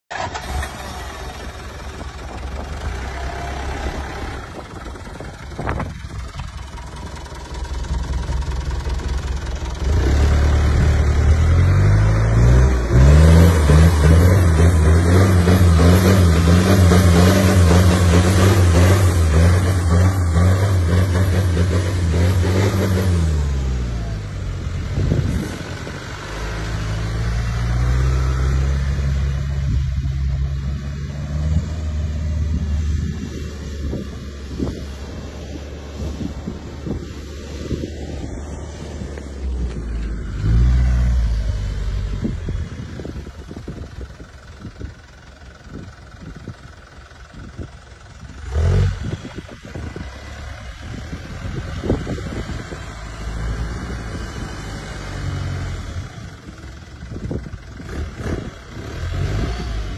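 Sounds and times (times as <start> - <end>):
off-road vehicle engine under load: 0.0 - 59.9.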